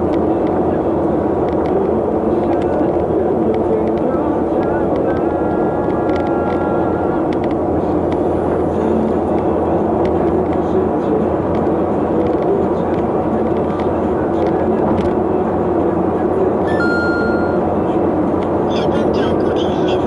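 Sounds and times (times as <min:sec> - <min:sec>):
vehicle road and engine noise: 0:00.0 - 0:20.0.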